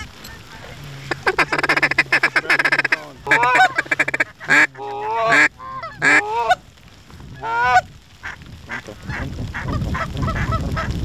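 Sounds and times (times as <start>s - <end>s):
goose calls clucking and honking: 0.0s - 6.6s, 7.4s - 10.9s.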